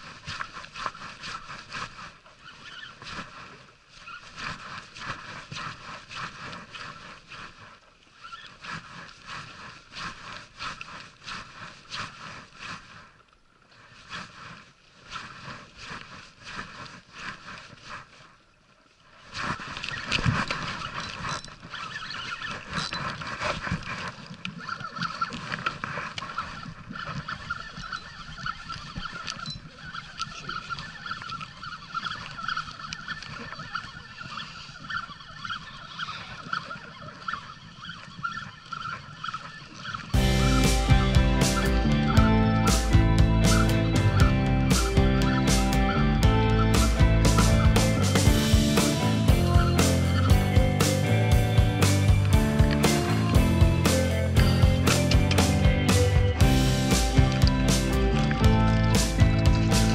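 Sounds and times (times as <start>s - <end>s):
water slapping rubber hull: 0.0s - 59.9s.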